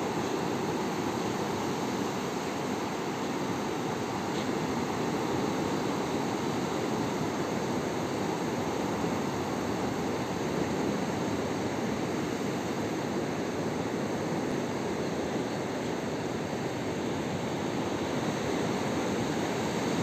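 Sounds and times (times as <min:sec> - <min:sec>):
sea surf on beach: 0:00.0 - 0:20.0.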